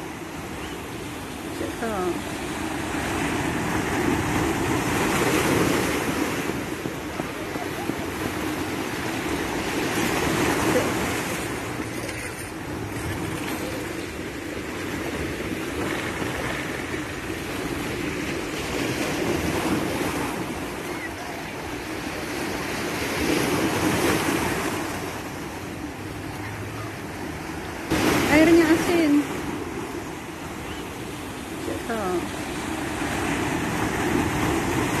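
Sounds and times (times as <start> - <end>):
waves breaking on shore: 0.0 - 35.0.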